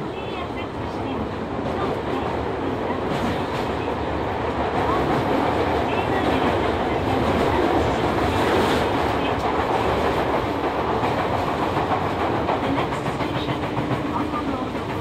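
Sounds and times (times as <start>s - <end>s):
train wheel-on-rail rumble: 0.0s - 15.0s
clickety-clack over rail joints: 0.2s - 15.0s.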